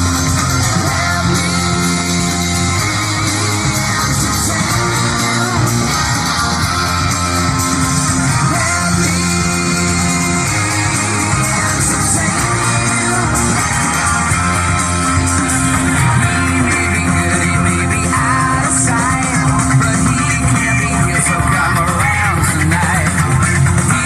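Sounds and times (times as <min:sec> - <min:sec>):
rock song with vocals: 0:00.0 - 0:24.0.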